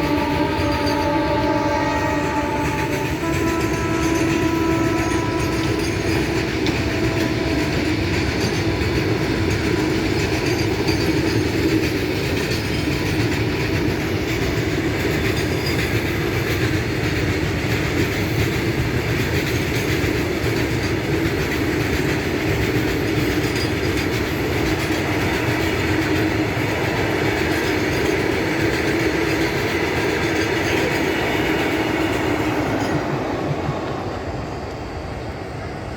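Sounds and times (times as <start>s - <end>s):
train wheels clattering over rails: 0.0s - 35.9s.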